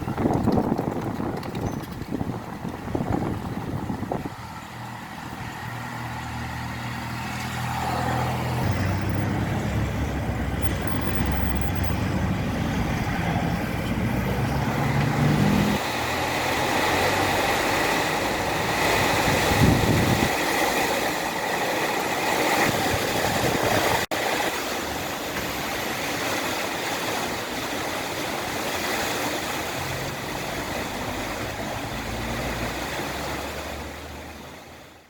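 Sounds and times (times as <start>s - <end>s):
vehicle engine humming: 0.0s - 26.2s, 29.6s - 35.0s.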